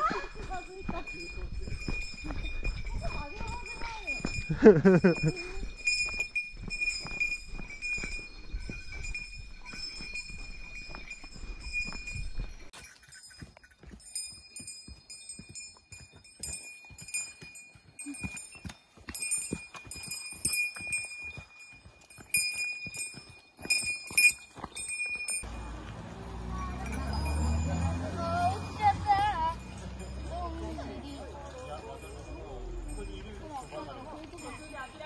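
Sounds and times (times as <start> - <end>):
small bell jingling: 0.0 - 25.8, 26.4 - 35.0
footsteps on dirt trail: 0.0 - 35.0.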